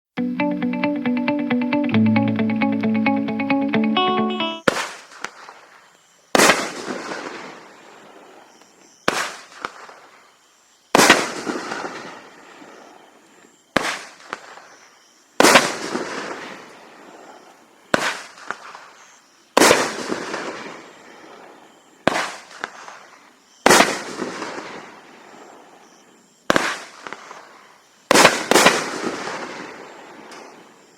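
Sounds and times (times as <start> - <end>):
firework reports: 4.6 - 10.2, 10.9 - 25.8, 26.4 - 30.9
firework hiss: 4.6 - 25.8, 26.5 - 30.9.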